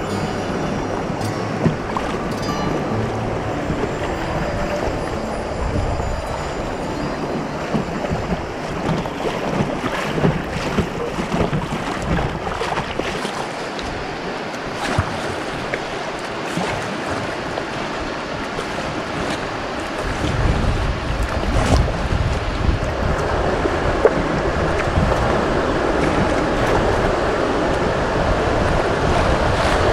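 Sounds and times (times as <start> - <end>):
river water rushing and splashing: 0.0 - 29.9
wind rumble on microphone: 0.0 - 29.9.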